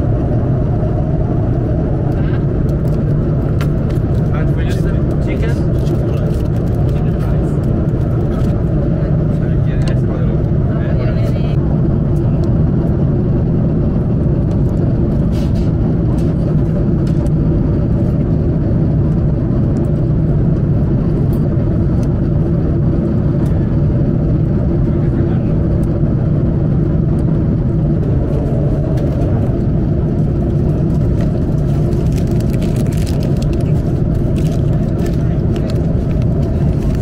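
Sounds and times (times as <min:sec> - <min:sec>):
airliner cabin jet engine drone: 0:00.0 - 0:37.0.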